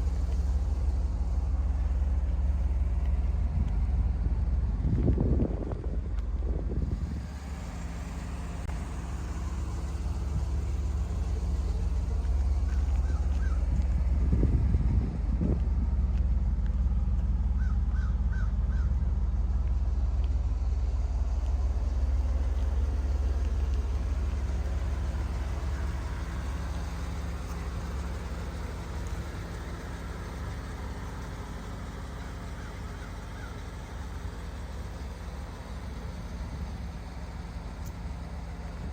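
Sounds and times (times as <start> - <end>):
car engine exhaust rumble: 0.0 - 38.9.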